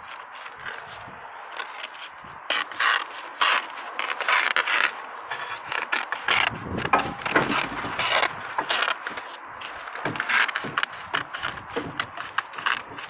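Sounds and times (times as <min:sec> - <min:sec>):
heavy handling noise: 0:00.0 - 0:13.0
scraping and rustling of roofing: 0:00.0 - 0:13.0.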